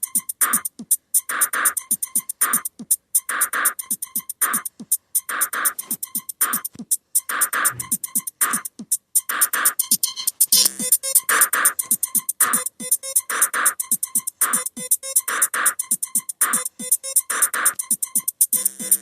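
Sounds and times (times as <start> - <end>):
looping percussive beat: 0.0 - 19.0.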